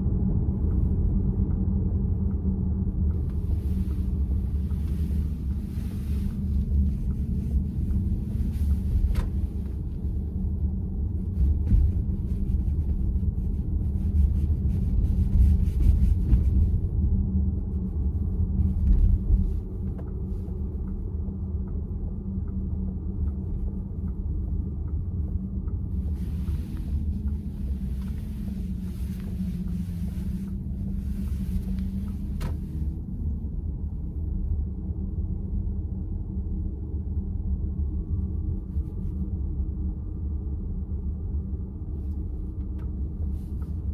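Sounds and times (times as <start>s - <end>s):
road and tyre rumble in car: 0.0s - 43.9s.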